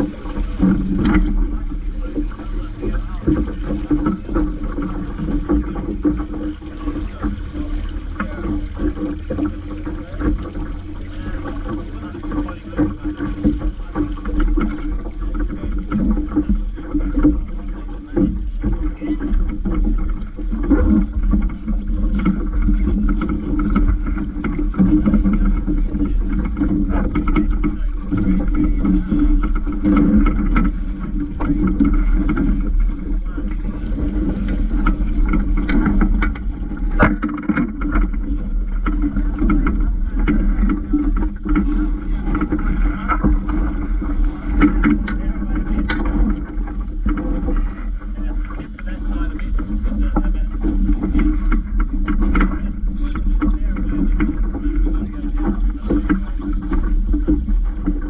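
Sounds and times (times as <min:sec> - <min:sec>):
water washing against boat hull: 0:00.0 - 0:58.0
wind rumbling on microphone: 0:00.0 - 0:58.0.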